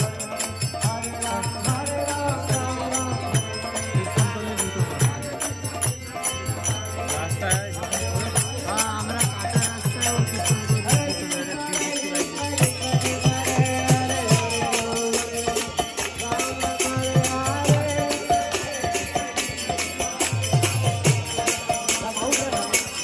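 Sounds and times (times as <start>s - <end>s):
hand cymbals jingling: 0.0s - 23.0s.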